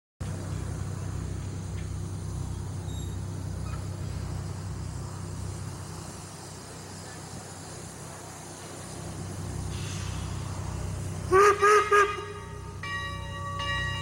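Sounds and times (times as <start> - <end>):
idling locomotive engine rumble: 0.2 - 14.0.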